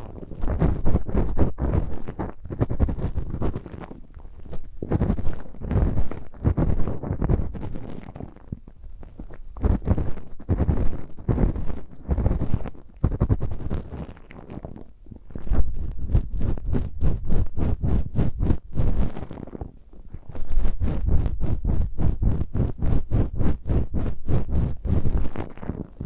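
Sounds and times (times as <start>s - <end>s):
ear pick scratching: 0.0s - 26.0s.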